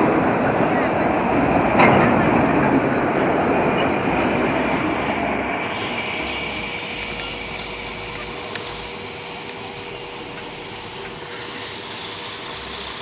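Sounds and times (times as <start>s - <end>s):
freight train wheels rushing on rails: 0.0s - 13.0s.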